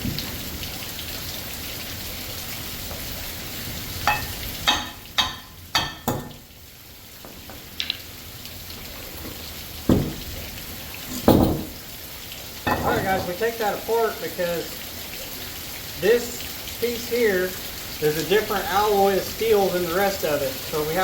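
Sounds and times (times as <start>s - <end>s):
heavy rain hissing: 0.0s - 5.1s, 8.2s - 21.0s.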